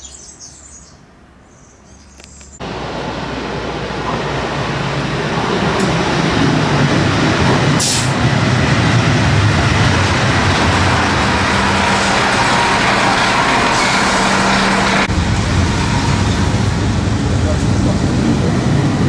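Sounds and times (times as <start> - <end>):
diesel train engine running: 2.6 - 19.0.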